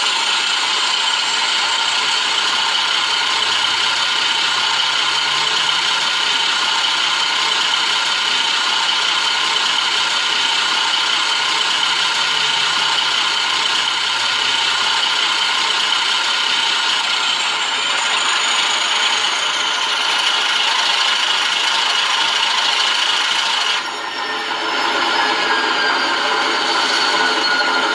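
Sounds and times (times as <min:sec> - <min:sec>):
diesel engine clatter from loudspeaker: 0:00.0 - 0:24.0.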